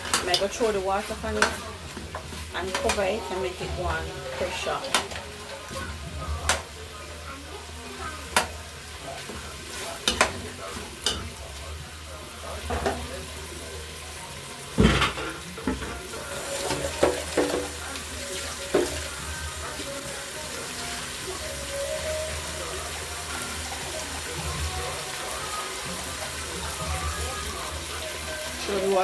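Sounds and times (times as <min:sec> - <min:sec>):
meat sizzling in a pot: 0:00.0 - 0:29.0.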